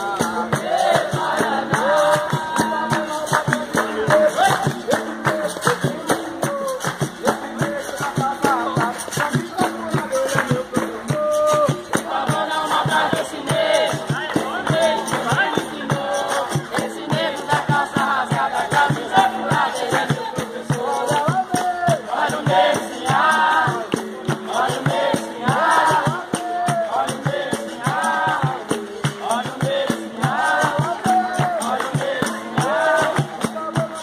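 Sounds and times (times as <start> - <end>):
group singing: 0.0 - 34.0
hand claps: 0.0 - 34.0
hand drum strikes: 0.0 - 34.0.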